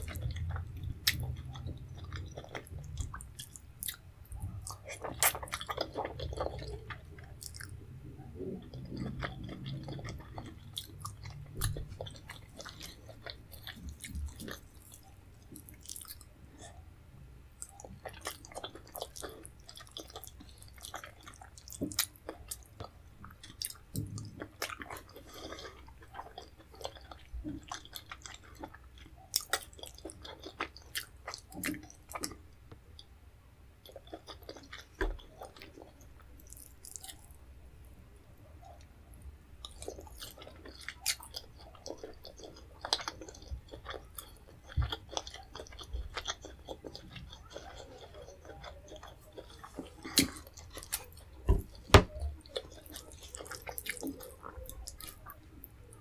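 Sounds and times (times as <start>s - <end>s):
close chewing: 0.0s - 16.8s, 17.6s - 33.1s, 33.8s - 37.4s, 38.6s - 56.0s.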